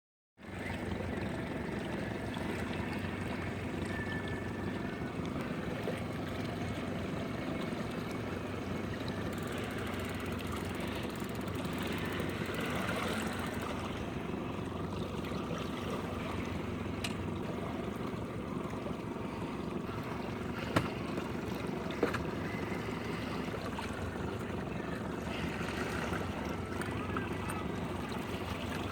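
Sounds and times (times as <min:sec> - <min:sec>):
outboard motor running: 0:00.4 - 0:28.9
water noise: 0:00.4 - 0:28.9.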